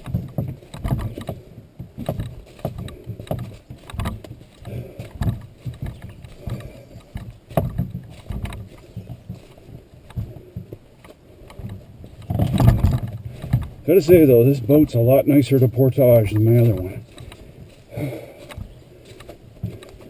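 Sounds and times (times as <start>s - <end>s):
canoe frame clicks and rustles: 0.0s - 20.0s
footsteps thumping: 0.0s - 20.0s.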